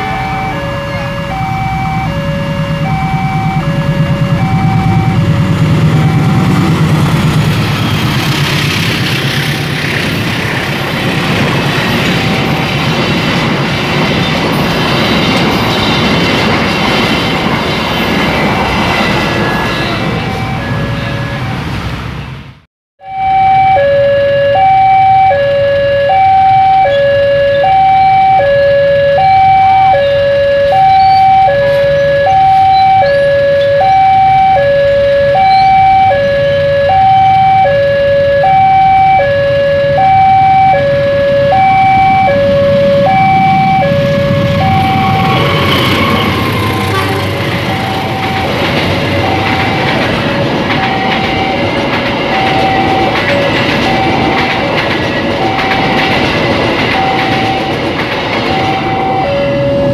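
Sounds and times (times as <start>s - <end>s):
two-tone crossing alarm: 0.0s - 8.7s, 11.0s - 21.8s, 23.0s - 59.9s
passing train rumble: 0.0s - 59.9s.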